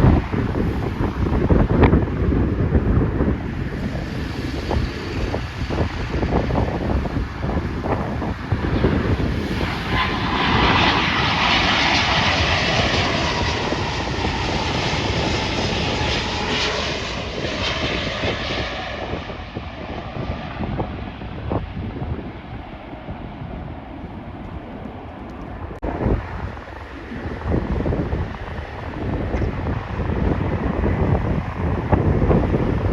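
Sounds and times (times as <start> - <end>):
jet airliner passing: 0.0 - 32.9
wind buffeting microphone: 0.0 - 32.9.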